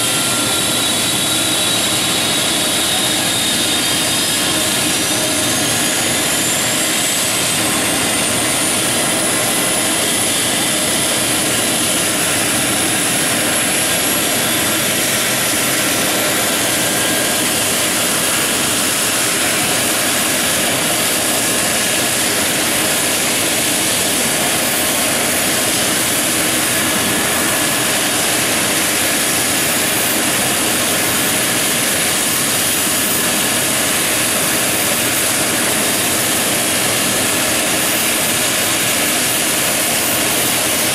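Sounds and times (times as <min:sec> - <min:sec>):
helicopter turbine engines and rotor: 0:00.0 - 0:40.9.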